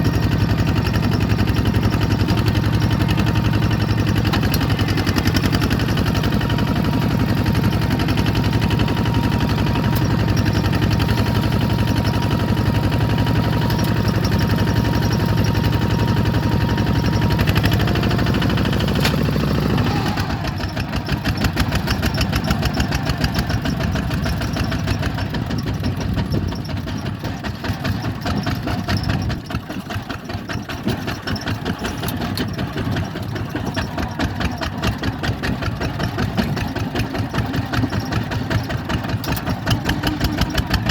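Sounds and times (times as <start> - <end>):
bulldozer diesel engine: 0.0 - 40.9.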